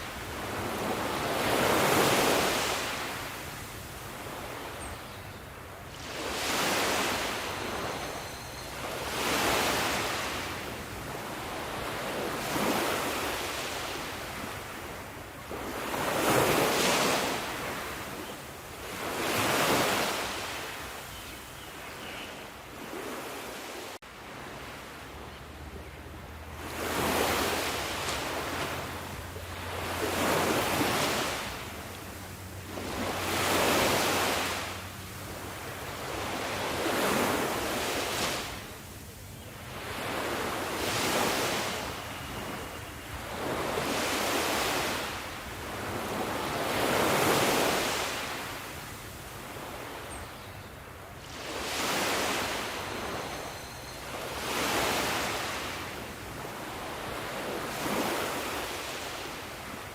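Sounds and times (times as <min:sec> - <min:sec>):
sea waves breaking: 0:00.0 - 0:05.1, 0:05.9 - 0:08.2, 0:08.8 - 0:18.2, 0:18.8 - 0:20.9, 0:26.3 - 0:39.0, 0:39.7 - 0:48.8, 0:51.2 - 0:53.5, 0:54.1 - 0:59.9.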